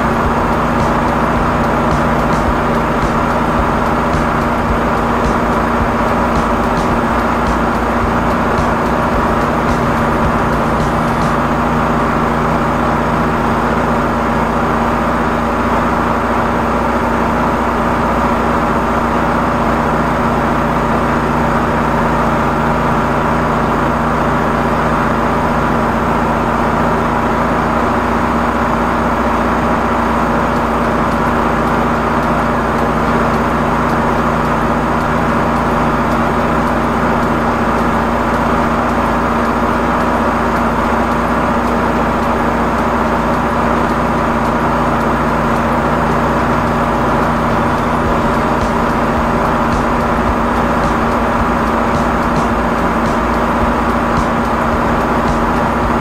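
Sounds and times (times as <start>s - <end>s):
engine-driven pump humming: 0.0s - 56.0s.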